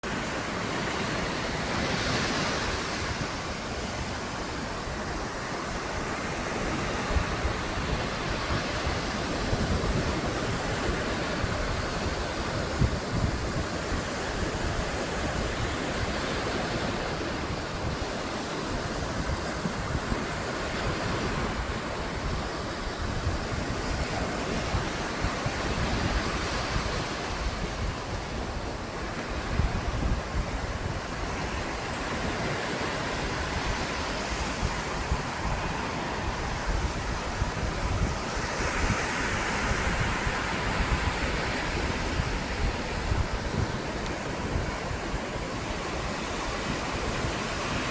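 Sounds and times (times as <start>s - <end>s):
ocean surf washing in: 0.0s - 47.9s
wind buffeting microphone: 0.0s - 47.9s.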